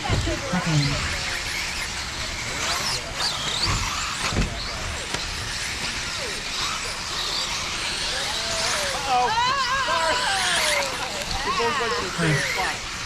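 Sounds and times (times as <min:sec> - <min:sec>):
remote control car motors whining: 0:00.0 - 0:13.0.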